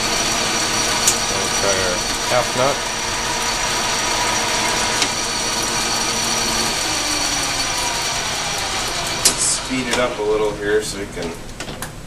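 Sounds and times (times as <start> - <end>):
metal lathe whirring: 0.0 - 10.6.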